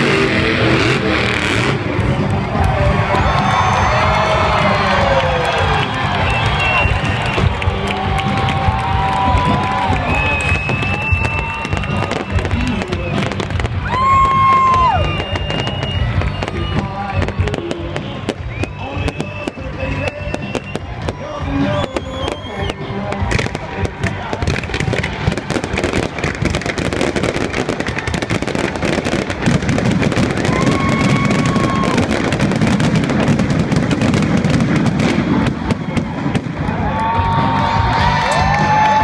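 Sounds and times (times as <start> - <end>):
fireworks crackling bangs: 0.0 - 39.0
music playing: 0.0 - 39.0.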